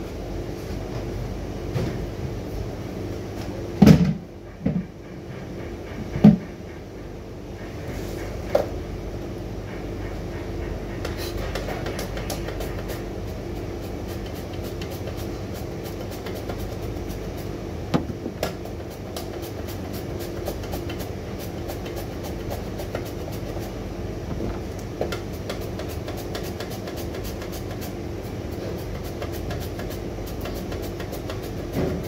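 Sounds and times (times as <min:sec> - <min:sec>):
kitchen machinery hum: 0:00.0 - 0:32.0.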